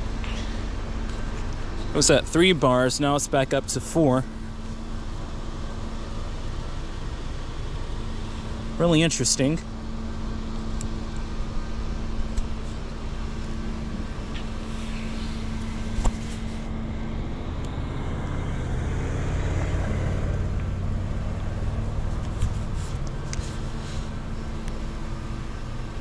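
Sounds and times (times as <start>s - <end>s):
electric bicycle hum: 0.0s - 26.0s
motor vehicle rumble: 0.0s - 26.0s.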